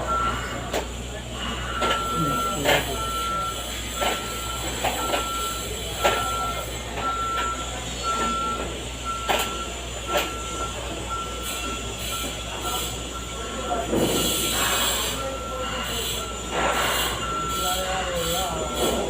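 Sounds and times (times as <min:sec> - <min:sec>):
vehicle reversing alarm beeping: 0:00.0 - 0:19.0.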